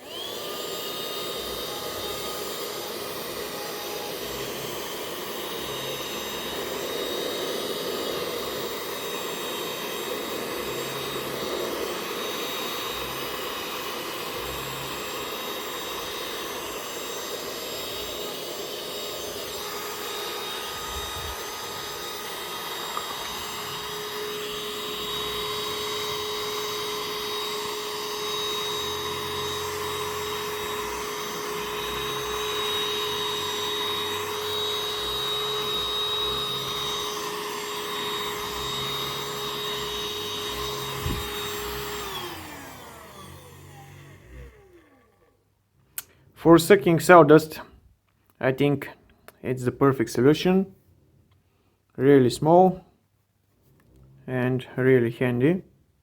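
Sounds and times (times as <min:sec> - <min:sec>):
handheld vacuum cleaner running: 0:00.0 - 0:45.4.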